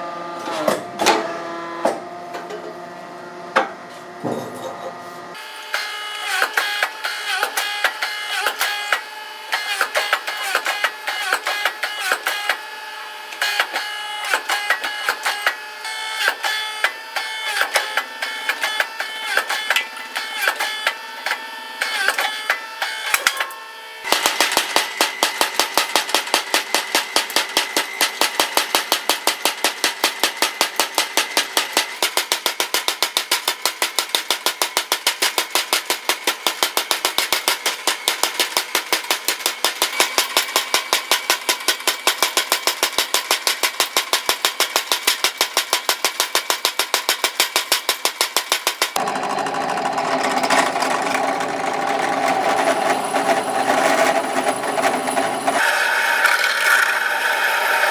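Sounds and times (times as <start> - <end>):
power hammer hammering: 5.3 - 57.9.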